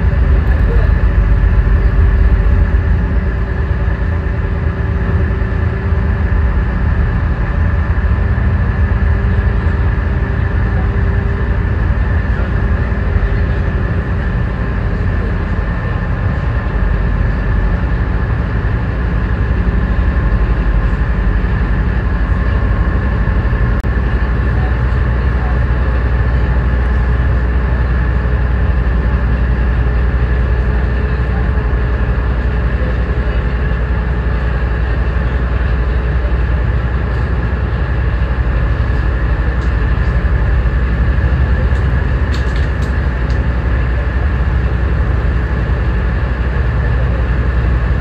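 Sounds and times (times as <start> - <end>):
ferry engine drone: 0.0 - 48.0.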